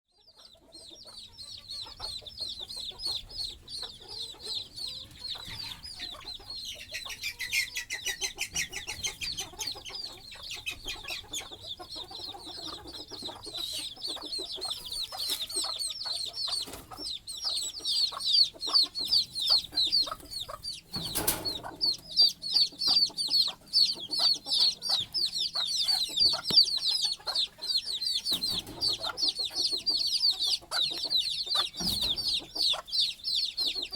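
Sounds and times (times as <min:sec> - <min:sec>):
baby chicks peeping: 0:00.1 - 0:33.9
hen clucking: 0:00.1 - 0:33.9.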